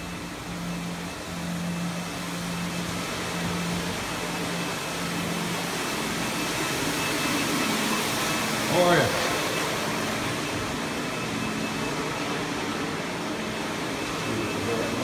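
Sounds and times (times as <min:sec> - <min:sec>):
floor scrubber motor humming: 0:00.0 - 0:15.0.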